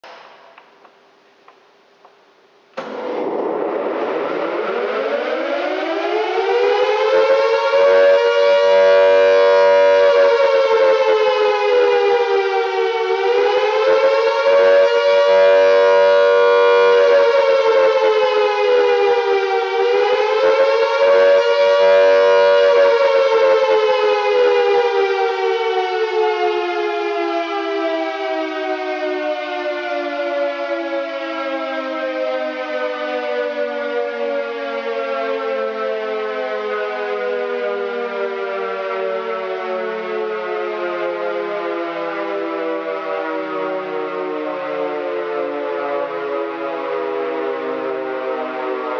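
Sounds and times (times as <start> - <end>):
air raid siren wailing: 2.8 - 48.9.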